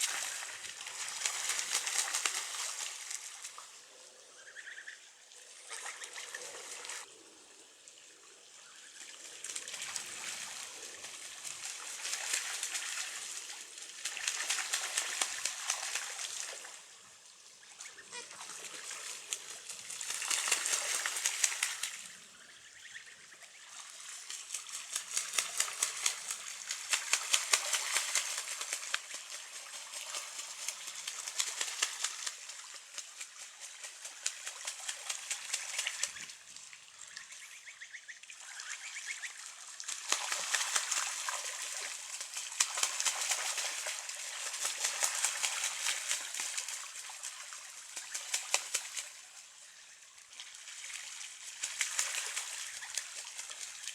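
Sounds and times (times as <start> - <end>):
water splashing and sloshing: 0.0 - 4.0, 5.2 - 7.2, 7.8 - 22.3, 23.2 - 53.9.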